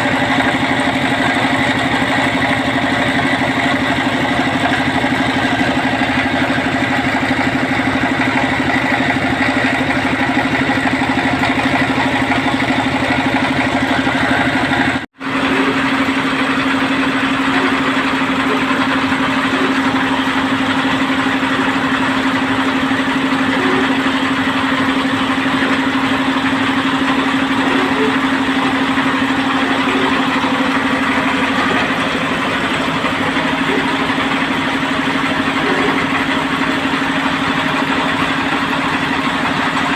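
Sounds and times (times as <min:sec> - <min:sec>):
drilling rig engine humming: 0:00.0 - 0:39.9.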